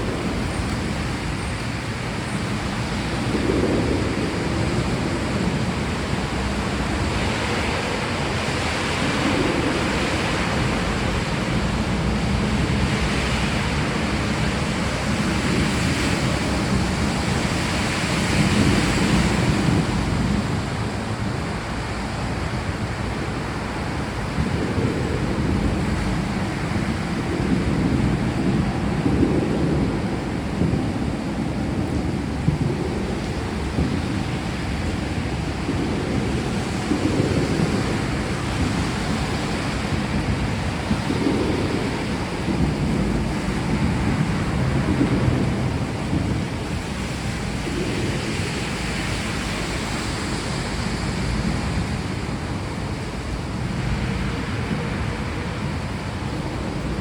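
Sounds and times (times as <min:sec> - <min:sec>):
distant thunder rumbles: 0:00.0 - 0:57.0
heavy rain: 0:00.0 - 0:57.0.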